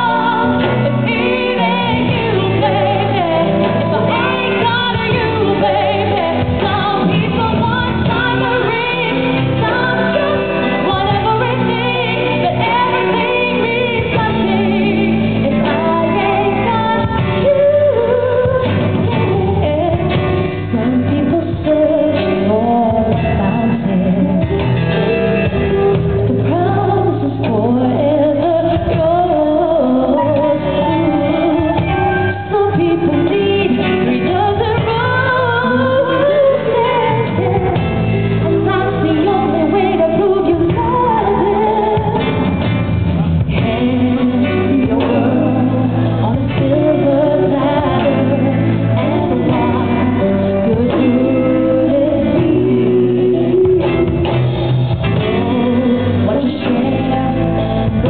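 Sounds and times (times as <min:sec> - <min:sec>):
person singing: 0:00.0 - 0:42.5, 0:43.4 - 0:58.0
bass guitar: 0:00.0 - 0:58.0
guitar: 0:00.0 - 0:58.0.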